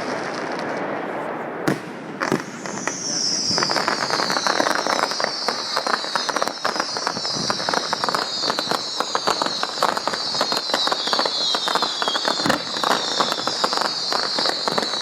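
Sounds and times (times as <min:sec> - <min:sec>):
descending firework whistles: 0:00.0 - 0:15.0
fireworks crackling: 0:00.0 - 0:15.0.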